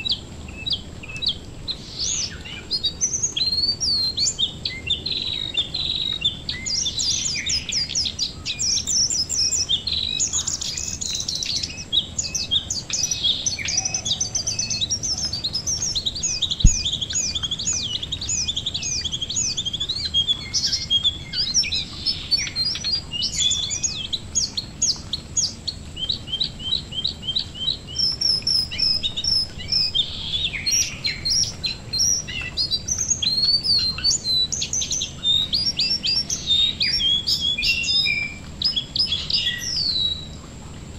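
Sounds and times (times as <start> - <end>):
birds chirping and trilling: 0.0 - 40.5
rain falling on water: 0.0 - 40.9.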